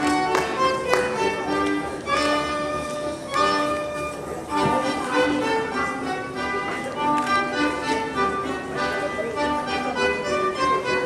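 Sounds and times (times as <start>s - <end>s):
fiddle: 0.0s - 11.0s.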